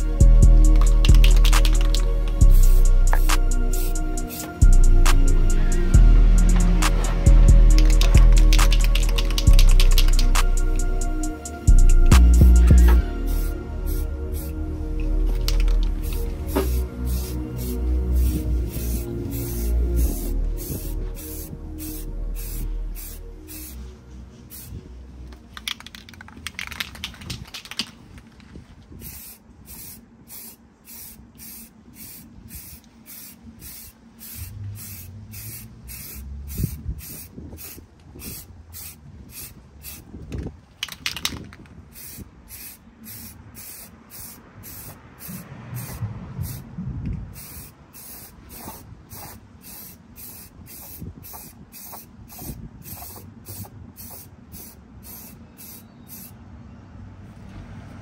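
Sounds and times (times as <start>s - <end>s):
paint spray hissing: 0.0s - 5.7s, 6.4s - 14.6s, 15.3s - 23.9s, 24.5s - 24.8s, 29.0s - 40.2s, 40.8s - 46.6s, 47.3s - 56.4s.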